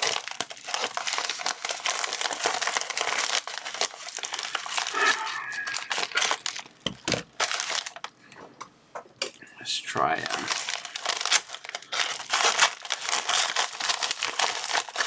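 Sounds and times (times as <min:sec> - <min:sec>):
plastic packaging crinkling and tearing: 0:00.0 - 0:08.2, 0:09.9 - 0:15.0.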